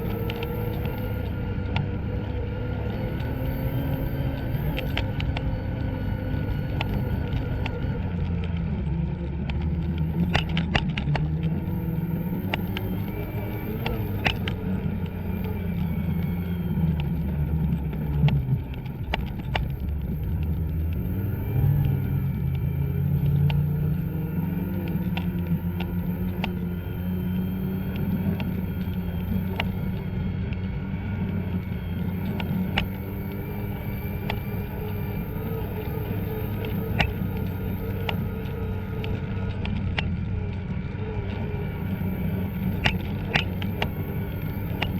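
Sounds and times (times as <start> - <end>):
sharp clicks and knocks: 0.0 - 44.9
snowmobile engine revving: 0.0 - 44.9.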